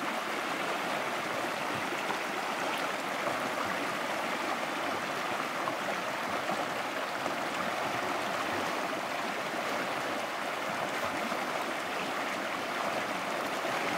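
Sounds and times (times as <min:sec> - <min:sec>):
stream rushing over rocks: 0:00.0 - 0:13.9.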